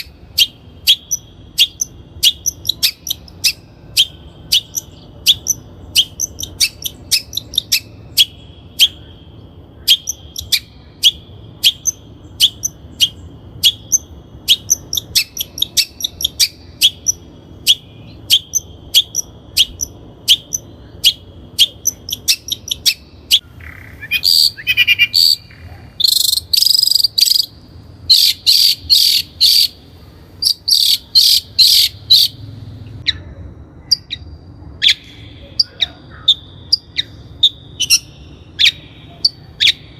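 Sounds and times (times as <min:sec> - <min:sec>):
shrike chirping: 0:00.0 - 0:39.9.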